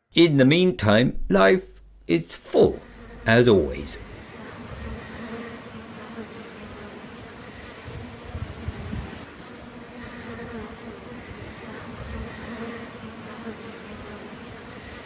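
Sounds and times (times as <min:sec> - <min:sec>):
steady buzzing hum: 0:01.4 - 0:15.0.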